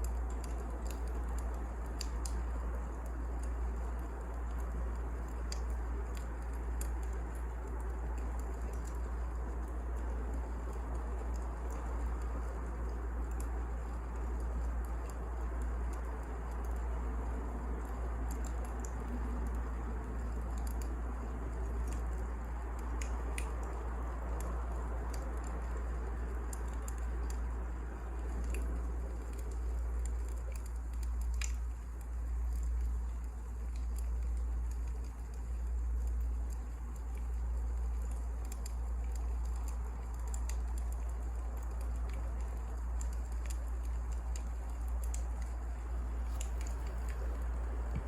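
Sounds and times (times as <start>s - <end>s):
low rumble and hiss: 0.0s - 48.0s
wood fire crackling: 0.0s - 48.0s.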